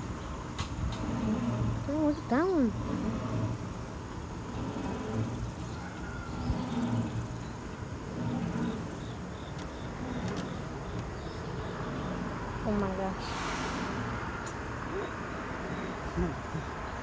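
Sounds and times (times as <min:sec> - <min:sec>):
chairlift running on cable: 0:00.0 - 0:14.4.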